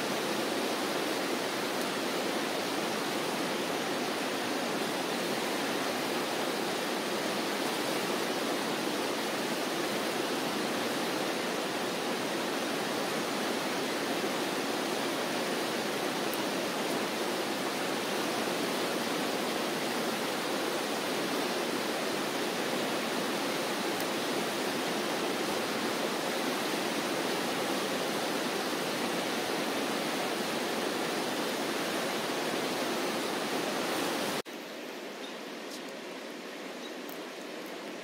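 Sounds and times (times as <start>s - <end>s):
fast river rushing: 0.0s - 38.0s.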